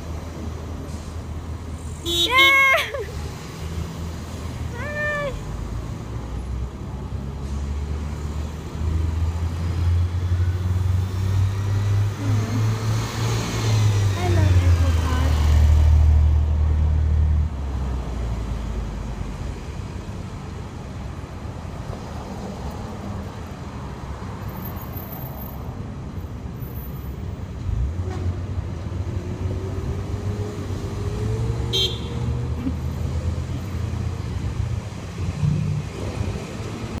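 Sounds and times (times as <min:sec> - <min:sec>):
cars passing with low rumble: 0:00.0 - 0:37.0.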